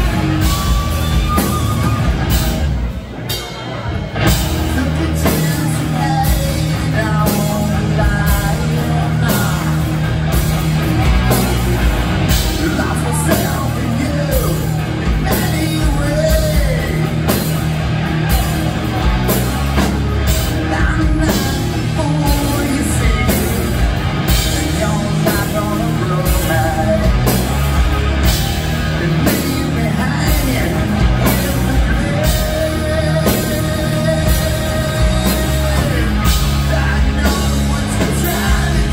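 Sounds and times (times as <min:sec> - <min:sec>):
bass guitar: 0:00.0 - 0:38.9
drum kit: 0:00.0 - 0:38.9
electric guitars: 0:00.0 - 0:38.9
lead vocal singing: 0:04.6 - 0:10.4, 0:11.2 - 0:17.6, 0:18.2 - 0:38.9.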